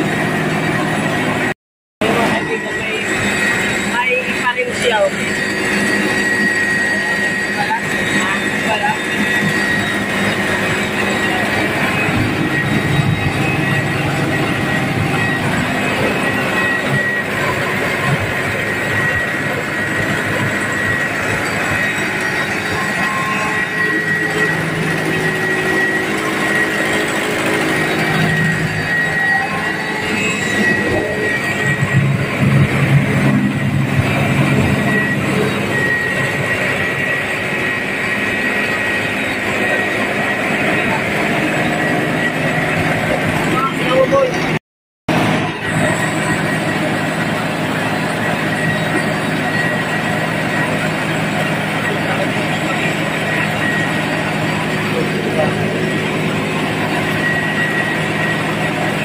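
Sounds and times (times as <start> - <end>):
rice mill machine running: 0.0 - 59.0
thin steady whine: 0.0 - 59.0.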